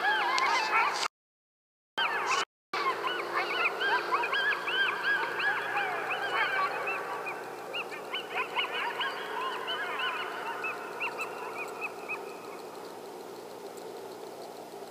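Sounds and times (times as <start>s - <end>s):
coyotes yipping and howling: 0.0s - 1.1s, 2.0s - 14.9s.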